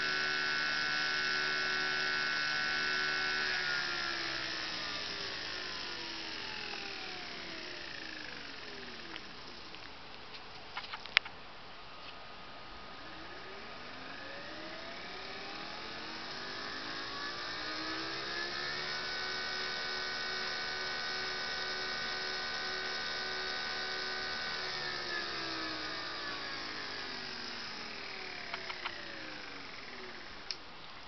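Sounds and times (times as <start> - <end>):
electric motor whirring: 0.0 - 9.9, 12.8 - 30.6.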